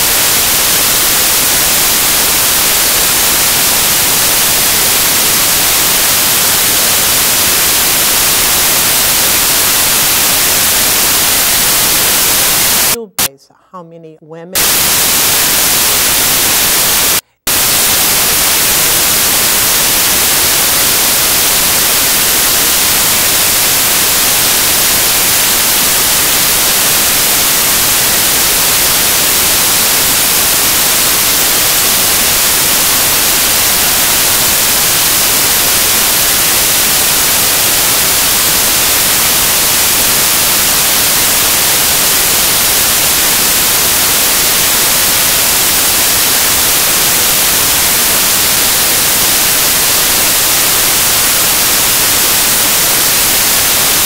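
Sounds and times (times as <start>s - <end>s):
white-noise static hiss: 0.0s - 54.0s.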